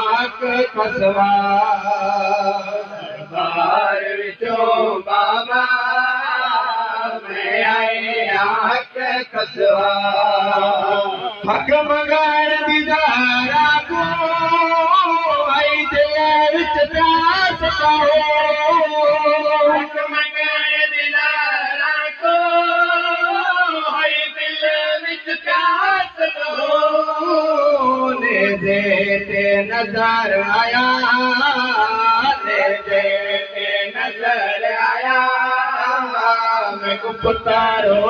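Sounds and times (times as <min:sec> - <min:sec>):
man chanting a lament: 0:00.0 - 0:38.0.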